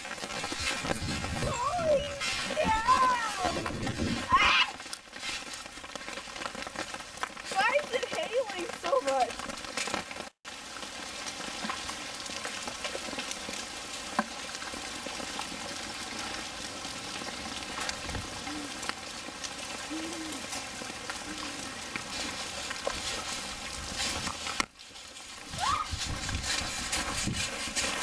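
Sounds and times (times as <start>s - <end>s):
hail and rain pattering: 0.0s - 28.0s
hailstones ticking: 0.0s - 28.0s.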